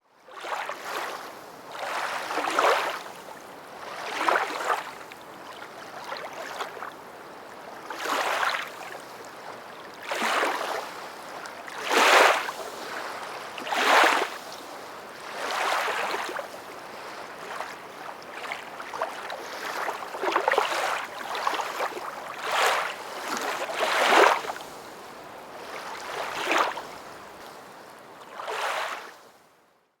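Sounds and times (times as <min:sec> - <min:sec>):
small waves splashing: 0:00.3 - 0:29.4.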